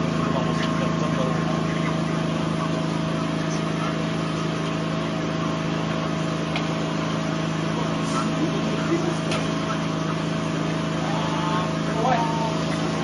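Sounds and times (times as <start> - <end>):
engine-like drone: 0.0 - 13.0.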